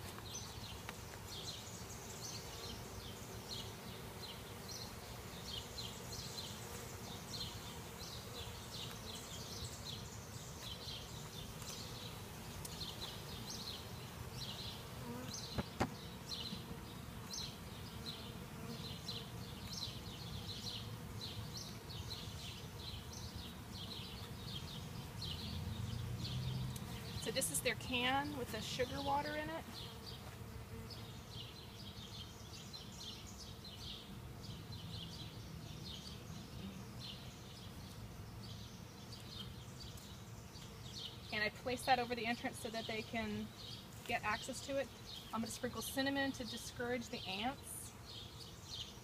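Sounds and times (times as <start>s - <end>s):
bees buzzing: 0.0s - 49.0s.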